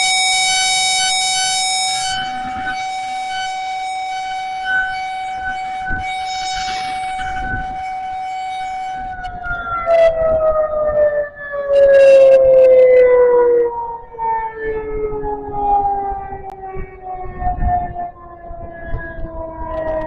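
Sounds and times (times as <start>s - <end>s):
outdoor warning siren: 0.0s - 20.0s.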